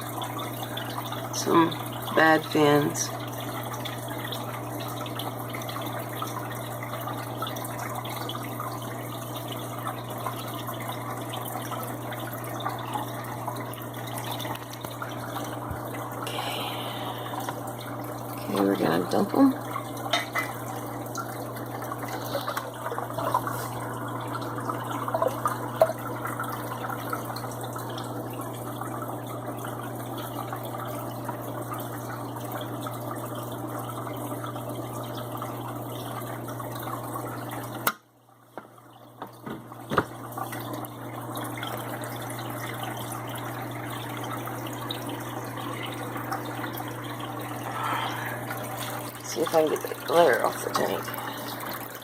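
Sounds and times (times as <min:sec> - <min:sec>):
pump humming: 0:00.0 - 0:52.0
water splashing into aquarium: 0:00.0 - 0:52.0.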